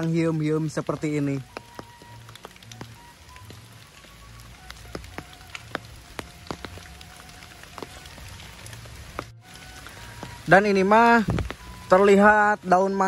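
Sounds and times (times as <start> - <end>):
rain hissing through trees: 0.0 - 13.0
raindrops ticking: 0.0 - 13.0.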